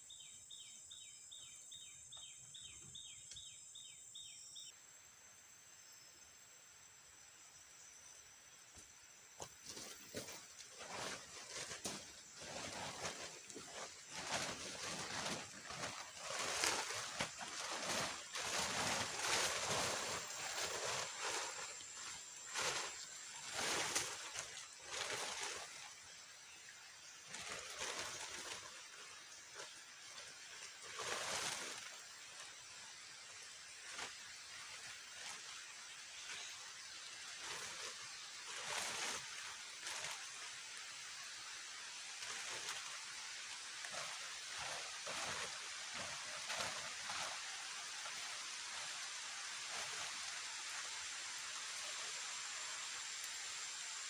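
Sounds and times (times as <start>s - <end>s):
rustles or patters: 9.4s - 26.4s, 27.0s - 53.8s.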